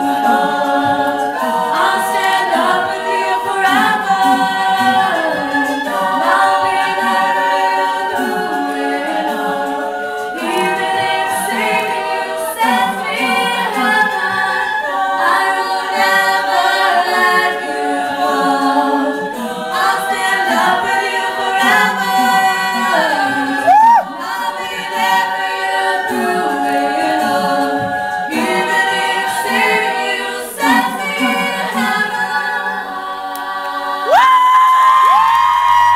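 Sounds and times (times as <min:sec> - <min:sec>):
sustained female vocal harmonies: 0:00.0 - 0:35.6.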